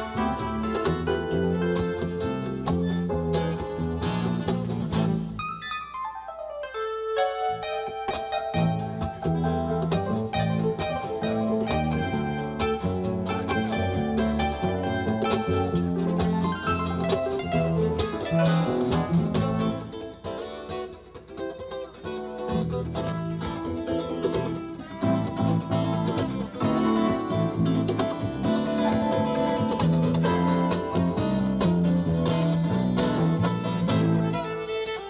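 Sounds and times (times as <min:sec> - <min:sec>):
bowed fiddle: 0:00.0 - 0:04.8, 0:07.7 - 0:20.2, 0:22.5 - 0:35.0
strummed acoustic guitar: 0:00.0 - 0:05.5, 0:08.0 - 0:35.0
live country band: 0:00.0 - 0:35.0.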